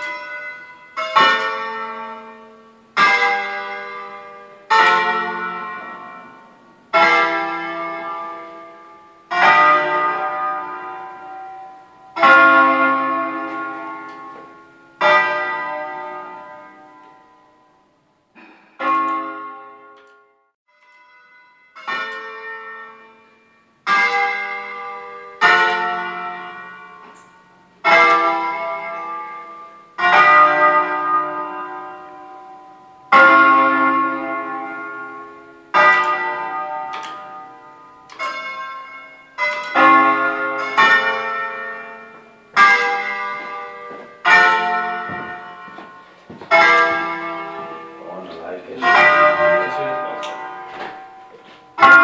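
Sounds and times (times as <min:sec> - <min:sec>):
church bells ringing: 0:00.0 - 0:52.0.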